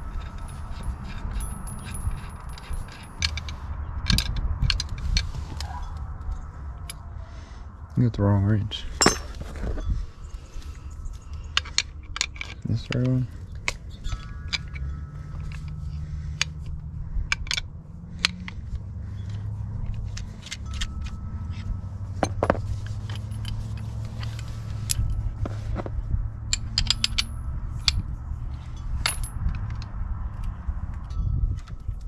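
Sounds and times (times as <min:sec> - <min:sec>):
wrenches clinking against metal: 0:00.0 - 0:07.0, 0:08.9 - 0:10.0, 0:11.4 - 0:25.9, 0:26.5 - 0:32.0.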